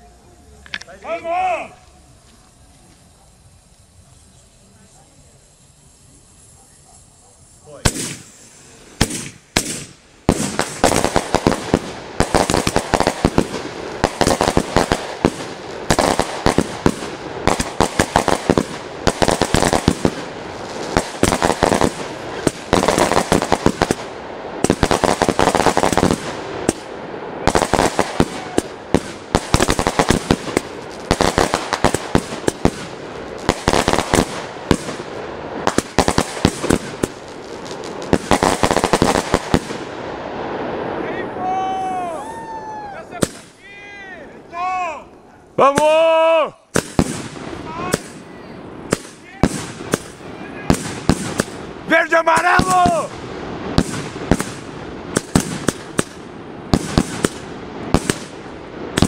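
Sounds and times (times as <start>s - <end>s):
fireworks cracking and popping: 0.0s - 59.0s.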